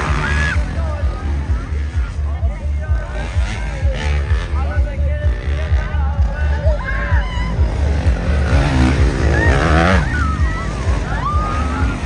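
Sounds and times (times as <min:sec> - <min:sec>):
dirt bike engine revving: 0:00.0 - 0:12.0
dirt bikes racing past: 0:00.0 - 0:12.0.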